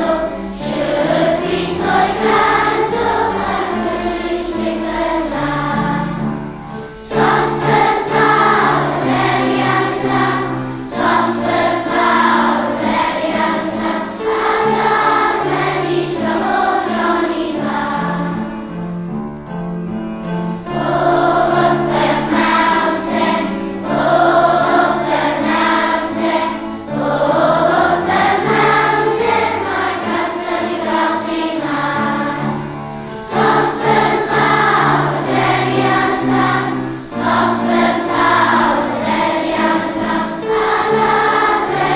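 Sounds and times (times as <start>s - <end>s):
choir singing: 0.0s - 19.0s, 20.5s - 41.9s.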